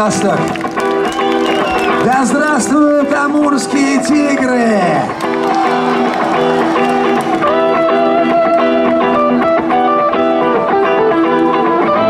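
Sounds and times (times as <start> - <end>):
electric guitars picking: 0.0 - 12.0
live rock band playing: 0.0 - 12.0.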